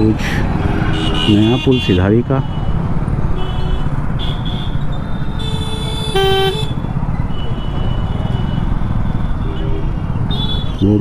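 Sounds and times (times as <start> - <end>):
vehicle horns honking: 0.7 - 2.8, 3.4 - 10.8.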